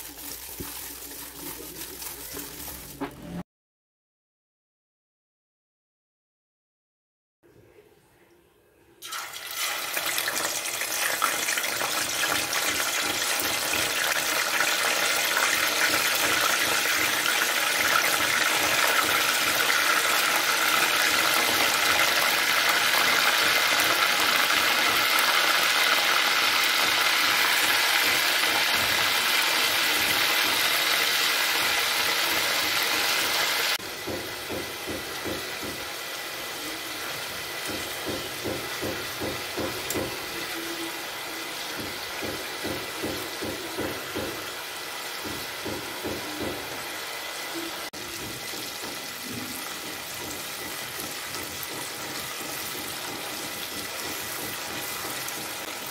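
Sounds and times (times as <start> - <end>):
chicken sizzling in hot oil: 0.0 - 3.0, 9.0 - 55.9.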